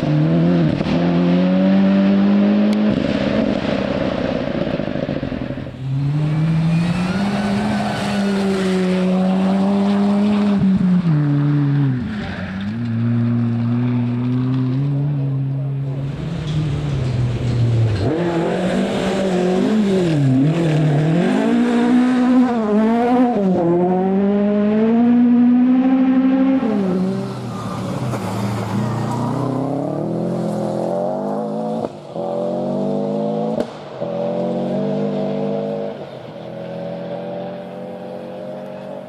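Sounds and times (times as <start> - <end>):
rally car engine revving: 0.0 - 39.0.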